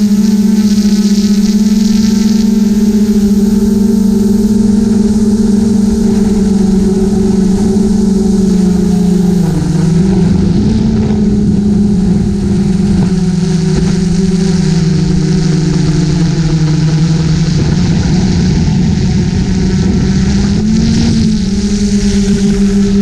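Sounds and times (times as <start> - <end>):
drone propellers humming: 0.0 - 23.0.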